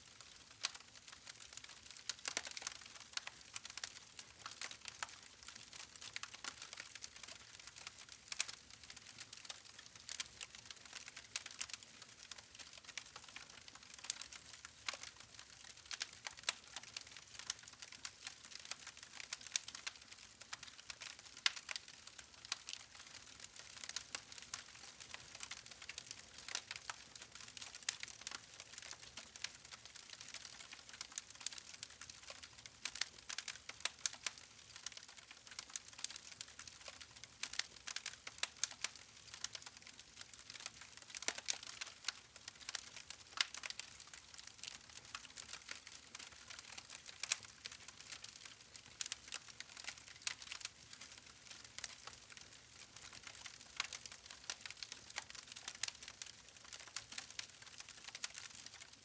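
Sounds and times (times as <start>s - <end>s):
campfire crackling and popping: 0.2s - 58.8s.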